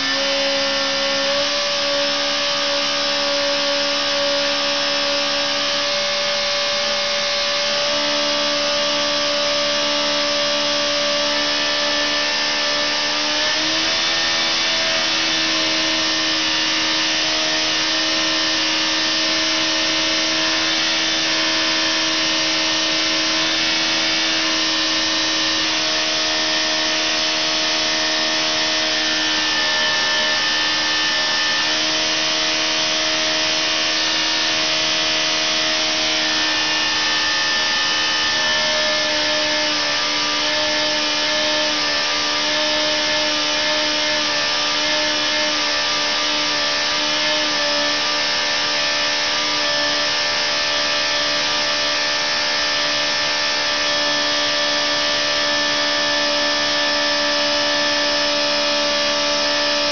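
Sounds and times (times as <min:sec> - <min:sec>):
engine running with whine: 0:00.0 - 0:59.9.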